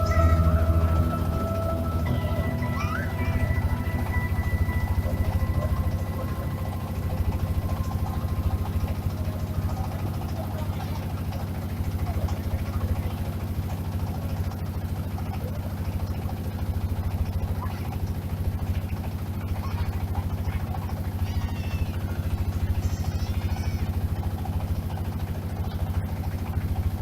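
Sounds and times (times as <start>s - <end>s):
engine running with low pulse: 0.0s - 27.0s.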